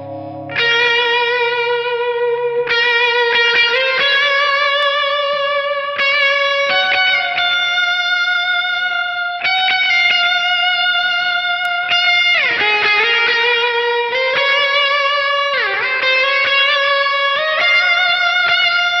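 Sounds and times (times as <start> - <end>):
electric guitar with reverb: 0.0 - 19.0.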